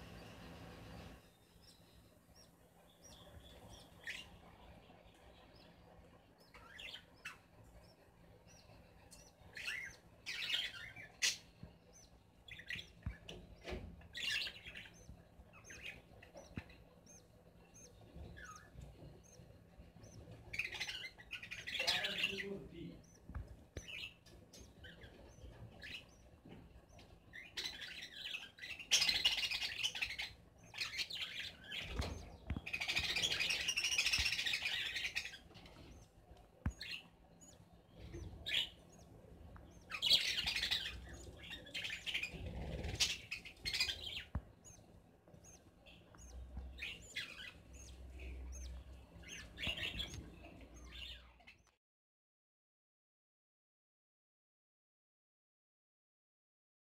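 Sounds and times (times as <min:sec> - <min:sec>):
budgerigars chirping: 0:00.2 - 0:04.4, 0:06.4 - 0:51.6.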